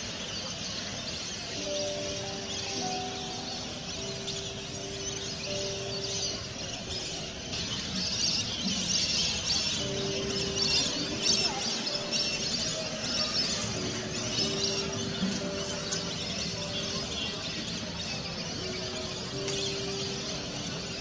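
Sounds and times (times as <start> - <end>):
chorus of birds calling: 0.0 - 21.0
soft background music: 0.0 - 21.0.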